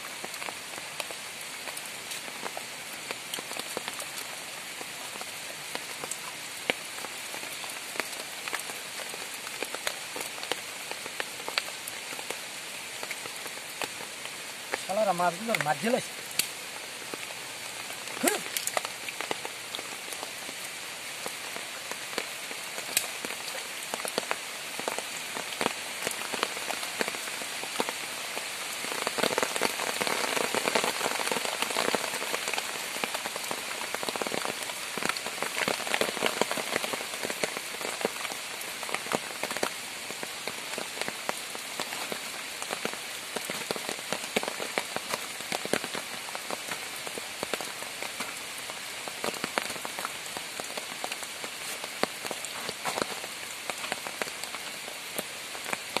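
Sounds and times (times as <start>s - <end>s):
steady rain on leaf litter: 0.0s - 56.0s.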